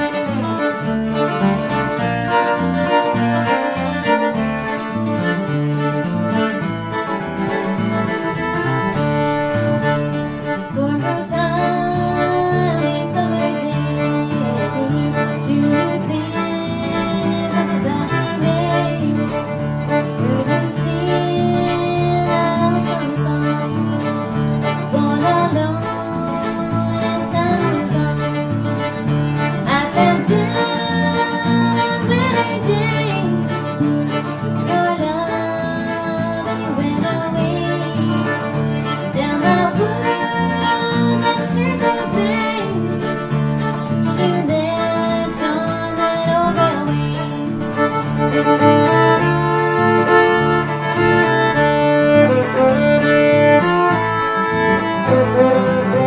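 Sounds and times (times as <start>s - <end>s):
bass line: 0.0s - 56.0s
fiddle melody: 0.0s - 56.0s
strummed guitar: 0.0s - 56.0s.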